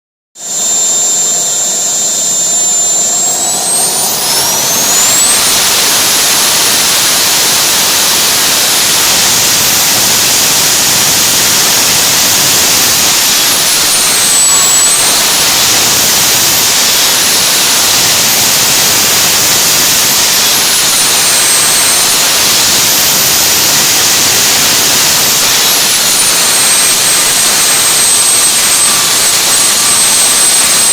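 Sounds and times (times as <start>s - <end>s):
turbojet engine running: 0.4s - 30.9s.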